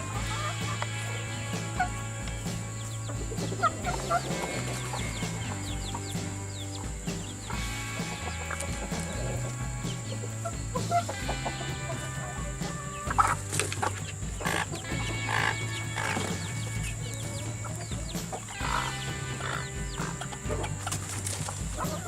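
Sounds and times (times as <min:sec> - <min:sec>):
background music with bass line: 0:00.0 - 0:22.0
chickens clucking: 0:00.0 - 0:22.0.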